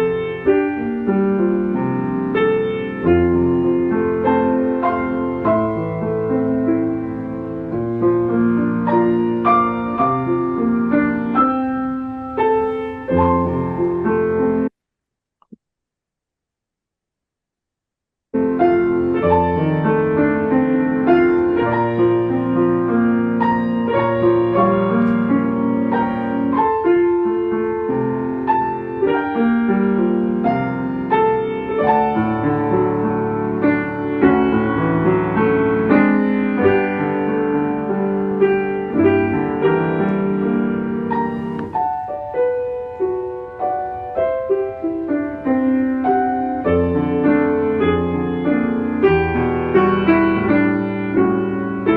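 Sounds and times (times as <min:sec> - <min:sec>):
slow piano piece: 0:00.0 - 0:14.8, 0:18.3 - 0:51.9.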